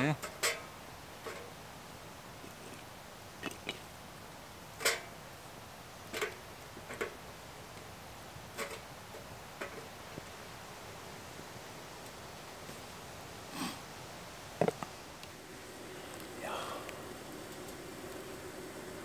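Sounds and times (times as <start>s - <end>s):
wood fire crackling and popping: 0.2s - 11.1s, 14.7s - 19.0s.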